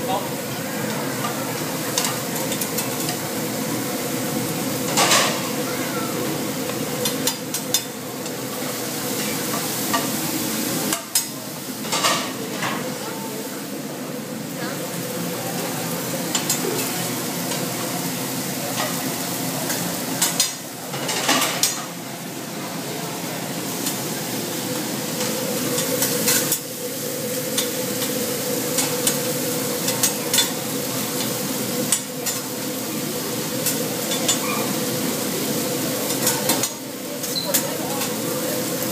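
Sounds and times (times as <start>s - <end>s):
food sizzling on a griddle: 0.0s - 38.9s.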